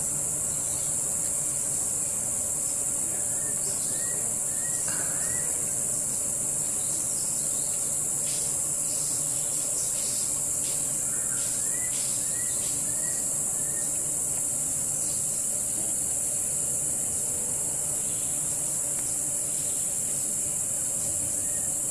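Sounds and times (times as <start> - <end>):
insects chorus: 0.0 - 21.9.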